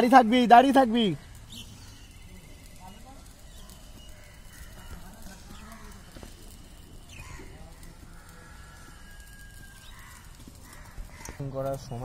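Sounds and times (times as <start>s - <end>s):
bird calls: 0.3s - 12.0s.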